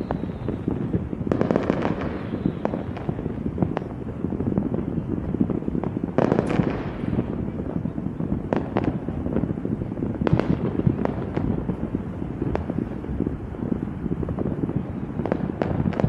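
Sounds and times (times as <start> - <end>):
fireworks bangs: 0.0 - 16.0
fireworks crackling rumble: 0.0 - 16.0.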